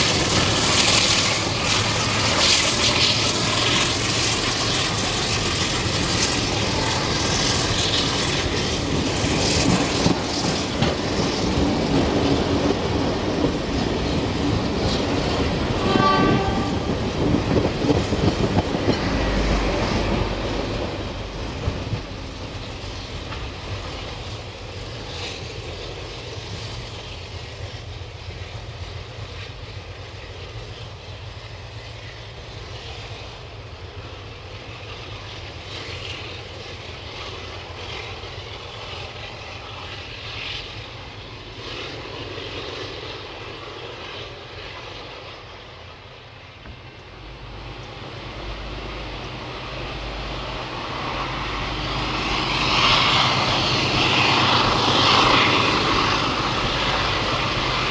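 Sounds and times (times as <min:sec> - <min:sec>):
diesel locomotive engine drone: 0:00.0 - 0:57.9.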